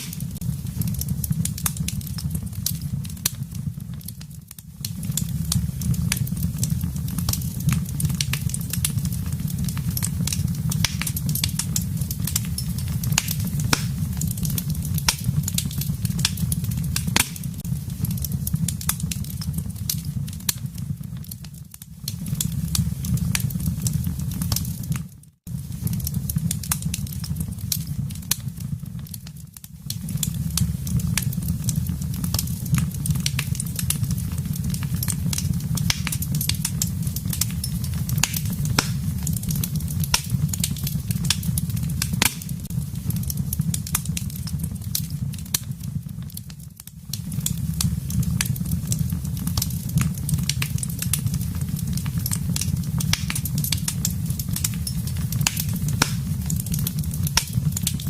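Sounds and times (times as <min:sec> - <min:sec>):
fire flame rumble: 0:00.0 - 0:58.0
logs crackling and popping: 0:00.0 - 0:58.0.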